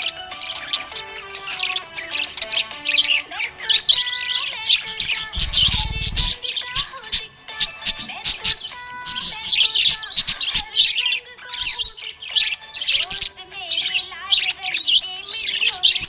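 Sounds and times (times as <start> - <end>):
parrots chirping and warbling: 0.0 - 16.0.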